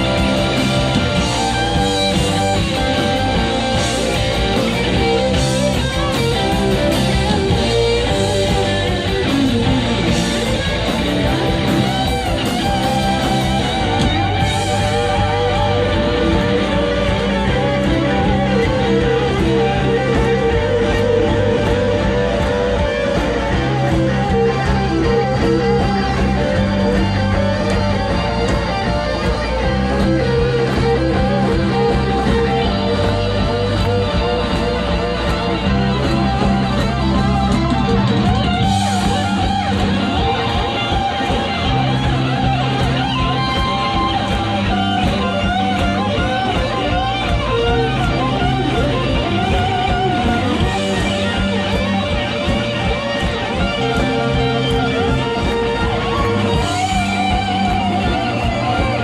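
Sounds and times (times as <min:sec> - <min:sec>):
bass guitar: 0:00.0 - 0:59.0
electric lead guitar bending notes: 0:00.0 - 0:59.0
steady drum beat: 0:00.0 - 0:59.0
strummed guitar: 0:00.0 - 0:59.0.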